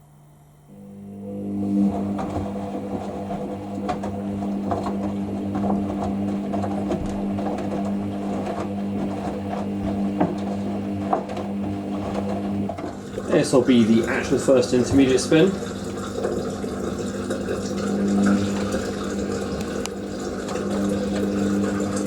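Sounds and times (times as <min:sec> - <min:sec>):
drain pump humming: 0:00.6 - 0:22.0.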